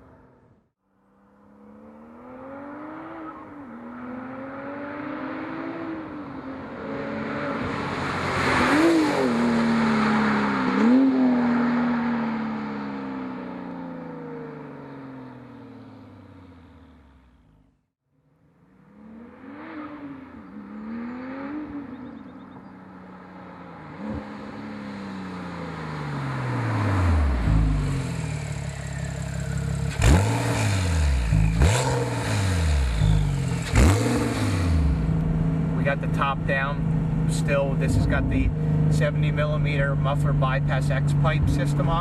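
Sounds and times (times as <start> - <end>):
sports car engine revving: 1.3 - 17.8, 18.6 - 42.0.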